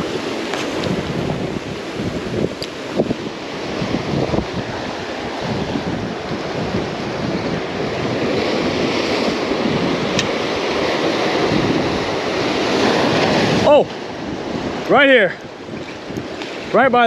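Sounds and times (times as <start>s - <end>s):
ocean surf washing ashore: 0.0s - 17.0s
wind buffeting microphone: 0.0s - 17.0s.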